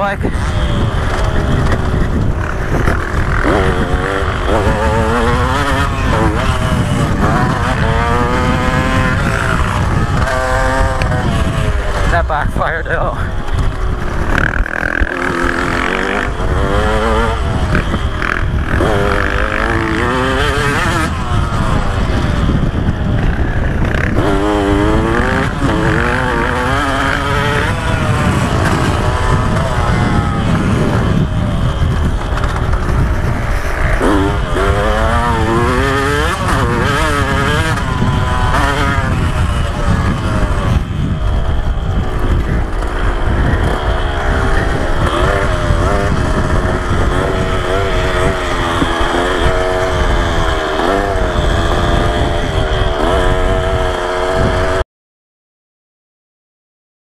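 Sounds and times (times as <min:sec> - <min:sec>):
motocross engine revving: 0:00.0 - 0:54.8.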